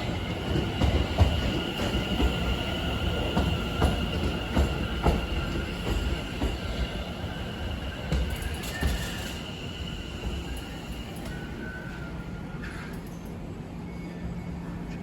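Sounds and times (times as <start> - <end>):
electric train whine: 0.0 - 14.8.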